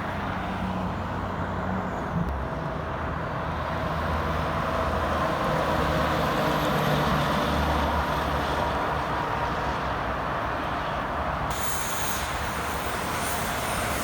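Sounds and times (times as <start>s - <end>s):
highway traffic passing: 0.0s - 14.0s.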